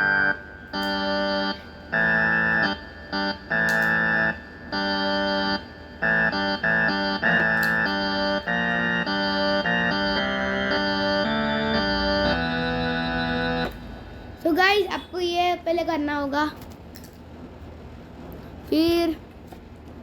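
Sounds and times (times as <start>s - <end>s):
electronic keyboard organ chords: 0.0s - 16.4s.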